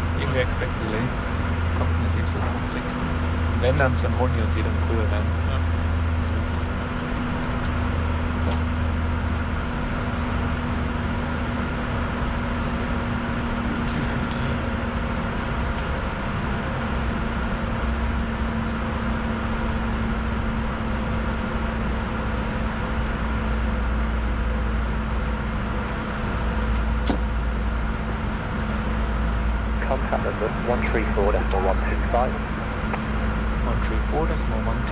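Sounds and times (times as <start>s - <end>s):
jet cockpit airflow and engine drone: 0.0s - 34.9s
steady hums: 0.0s - 34.9s.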